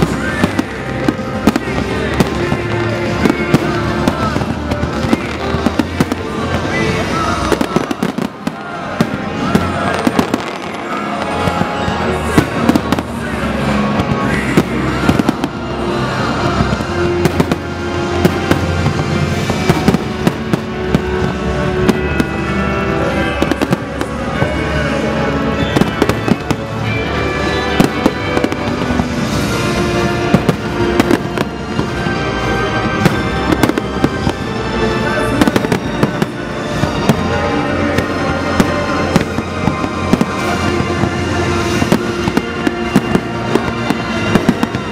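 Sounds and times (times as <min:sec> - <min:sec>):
fireworks bangs and crackling: 0:00.0 - 0:44.9
loud music: 0:00.0 - 0:44.9.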